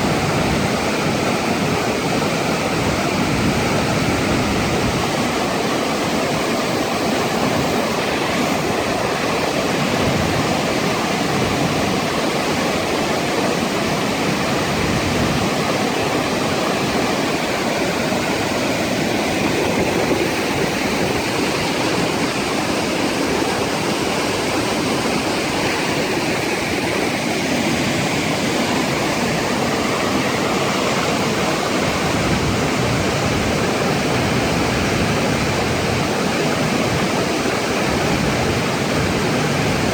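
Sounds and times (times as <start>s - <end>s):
flood water rushing: 0.0s - 39.9s.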